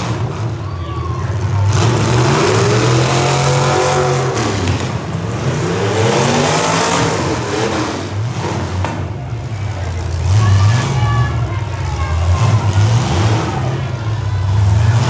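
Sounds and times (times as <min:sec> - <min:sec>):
car engine revving: 0:01.4 - 0:15.0.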